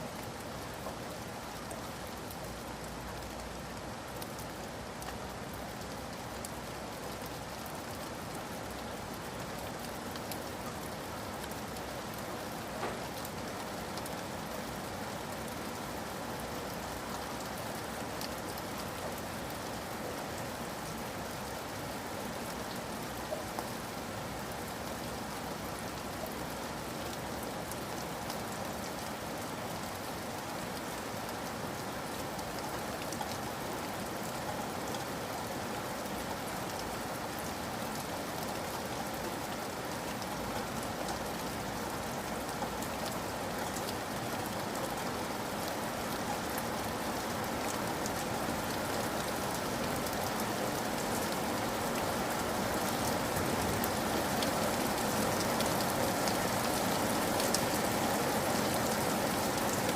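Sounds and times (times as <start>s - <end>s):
rain drops on hard surface: 0.0s - 59.9s.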